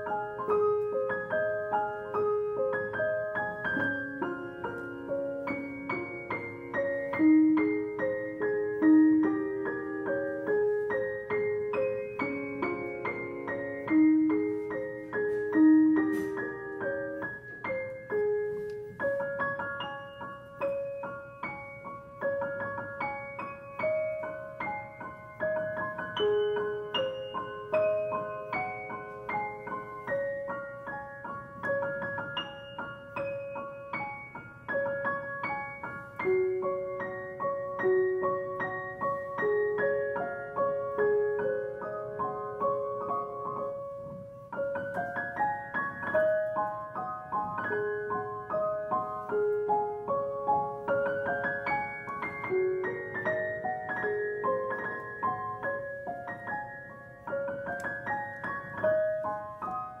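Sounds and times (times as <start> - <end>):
solo piano piece: 0.0 - 60.0.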